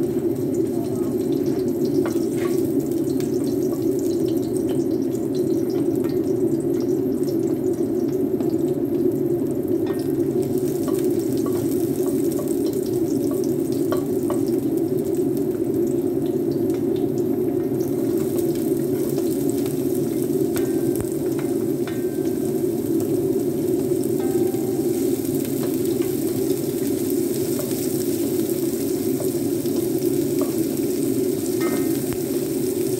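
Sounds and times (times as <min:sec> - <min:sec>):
garlic and onion sizzling in oil: 0:00.0 - 0:32.9.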